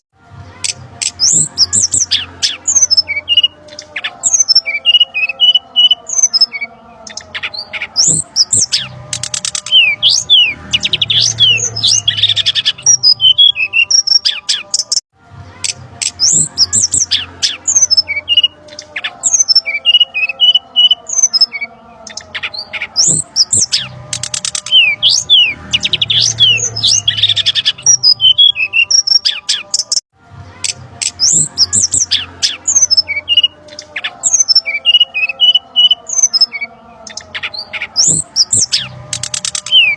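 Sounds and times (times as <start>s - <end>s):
birds calling agitatedly: 0.6s - 15.0s, 16.0s - 30.0s, 31.0s - 39.9s.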